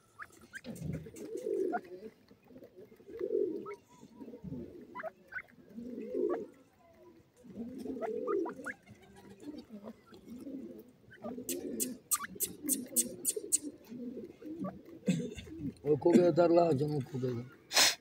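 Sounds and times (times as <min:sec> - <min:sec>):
dove cooing: 0:00.0 - 0:16.2.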